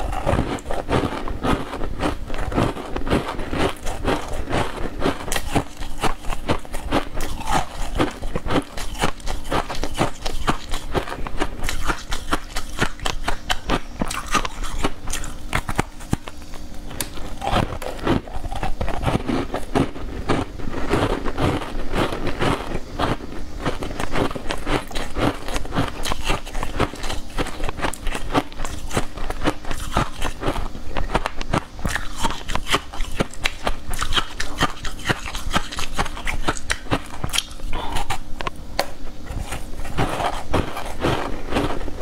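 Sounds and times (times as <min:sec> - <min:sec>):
wet chewing clicks and smacks: 0:00.0 - 0:41.8.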